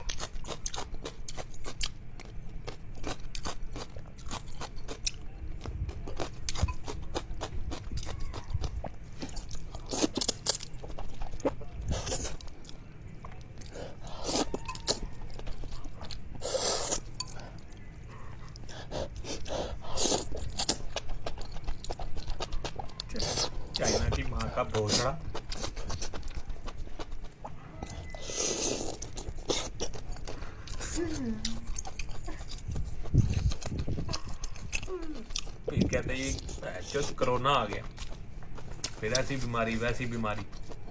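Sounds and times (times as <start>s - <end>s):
person chewing and crunching food: 0.0s - 40.9s.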